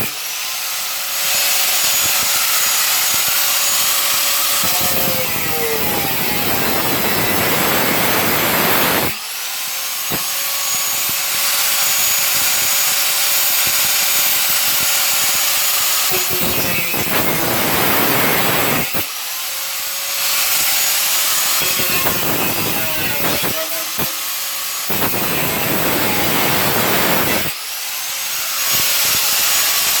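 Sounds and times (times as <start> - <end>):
angle grinder cutting metal panel: 0.0 - 30.0.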